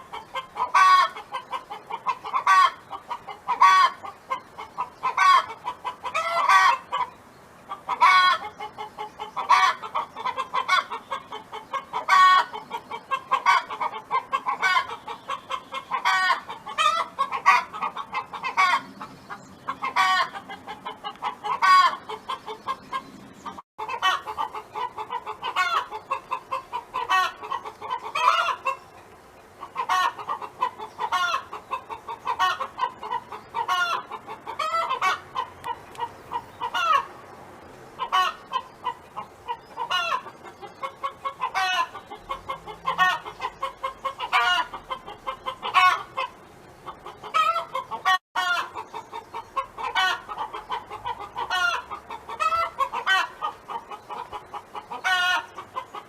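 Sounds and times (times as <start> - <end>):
hen clucking: 0.0 - 37.3, 37.9 - 56.0.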